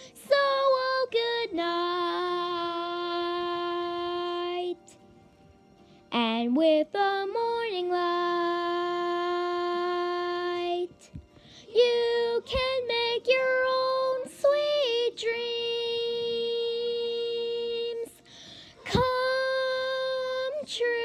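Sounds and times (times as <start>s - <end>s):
girl singing unaccompanied: 0.0s - 5.0s, 6.1s - 21.0s.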